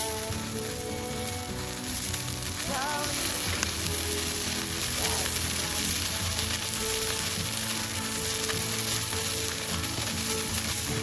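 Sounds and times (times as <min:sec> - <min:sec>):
background music: 0:00.0 - 0:11.0
food sizzling in a pan: 0:00.0 - 0:11.0.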